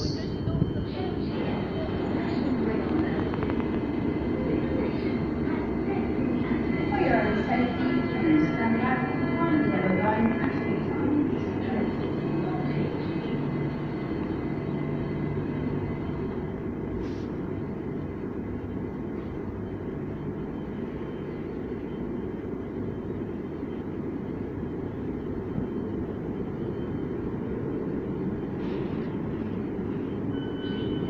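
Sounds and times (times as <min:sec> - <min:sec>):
low rumble of underground station: 0:00.0 - 0:31.0.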